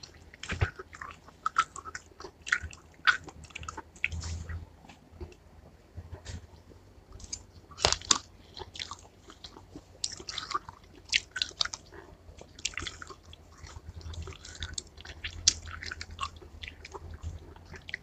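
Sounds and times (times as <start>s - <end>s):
wet mouth clicks: 0.0s - 4.6s, 7.2s - 18.0s
person chewing watermelon: 0.0s - 18.0s.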